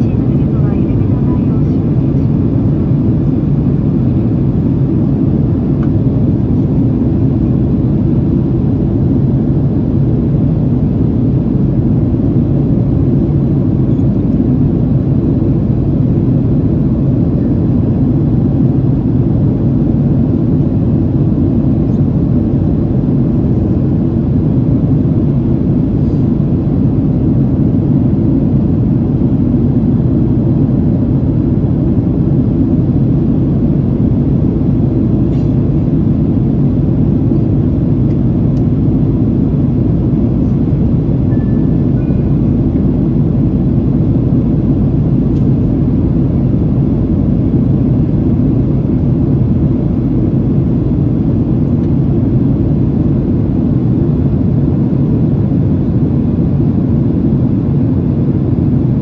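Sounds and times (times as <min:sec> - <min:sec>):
airplane cabin engine roar: 0:00.0 - 0:59.0.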